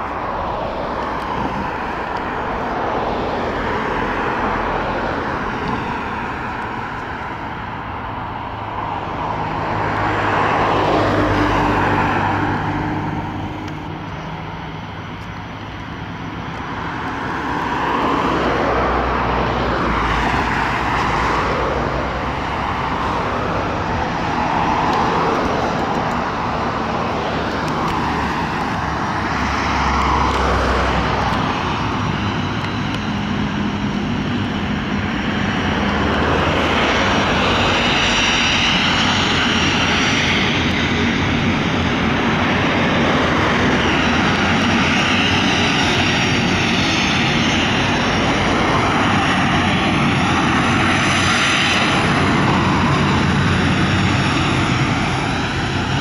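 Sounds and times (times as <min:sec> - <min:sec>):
high jet engine whine: 0:00.0 - 0:56.0
jet engines roaring: 0:00.0 - 0:56.0.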